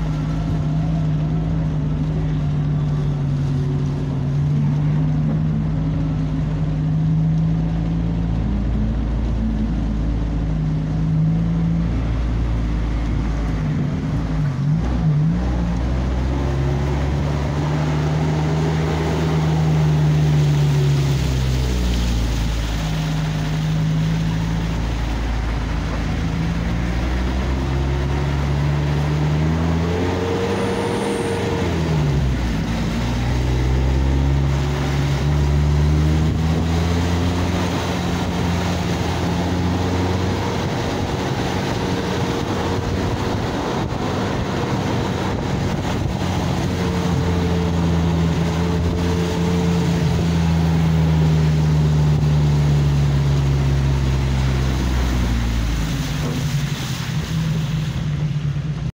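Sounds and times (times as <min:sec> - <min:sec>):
vehicle engine running: 0:00.0 - 0:58.9
road and wind noise: 0:00.0 - 0:59.0.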